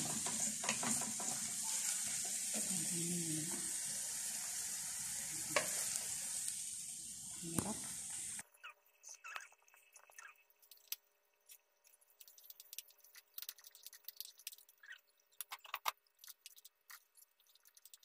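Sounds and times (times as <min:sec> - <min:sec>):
beef crackling in a wok: 0:00.0 - 0:08.5, 0:09.4 - 0:18.0.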